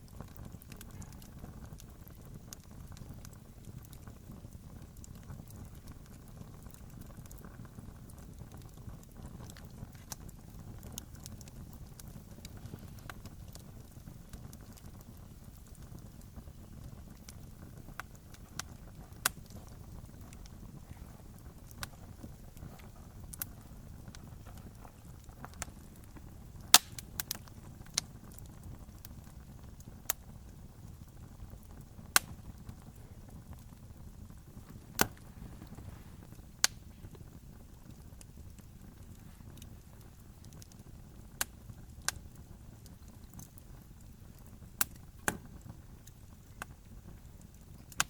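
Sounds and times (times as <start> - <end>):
low steady rumble: 0.0 - 47.3
campfire crackling: 0.0 - 48.0.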